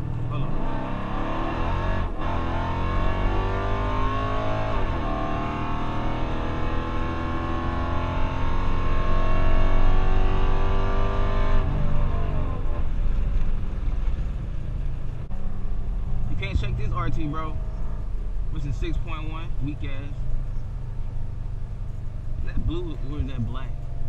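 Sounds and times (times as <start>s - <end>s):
car engine revving at full throttle: 0.0s - 24.0s.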